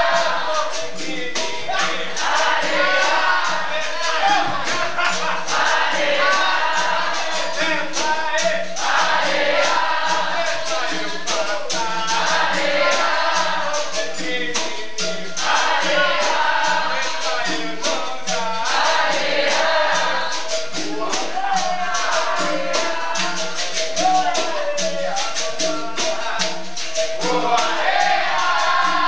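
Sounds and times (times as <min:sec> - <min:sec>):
berimbaus and pandeiro rhythm: 0:00.0 - 0:29.0
group singing: 0:00.0 - 0:29.0.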